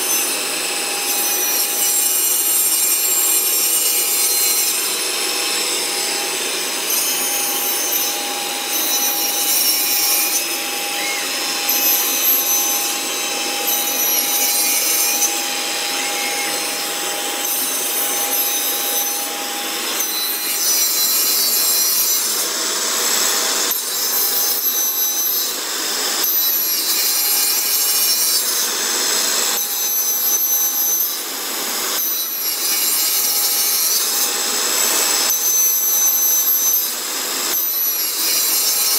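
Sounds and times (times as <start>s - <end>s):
circular saw cutting wood: 0.0s - 38.9s.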